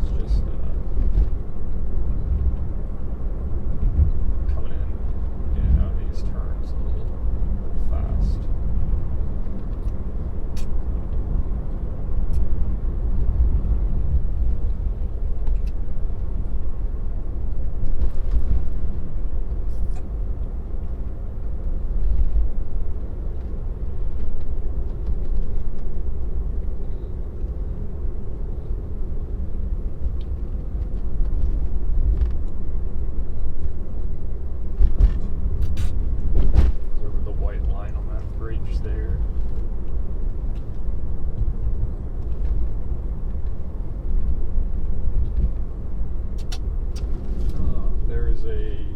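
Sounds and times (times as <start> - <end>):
road and tyre rumble: 0.0 - 48.9.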